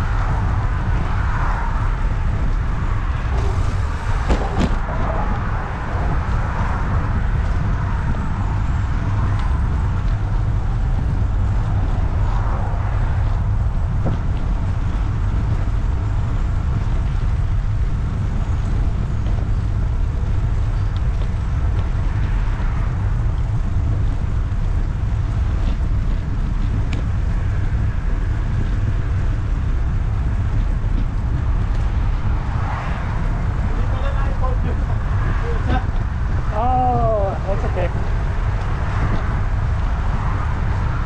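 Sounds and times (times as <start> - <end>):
traffic rushing past: 0.0 - 26.5, 27.1 - 41.0
deep rumble: 0.0 - 41.0.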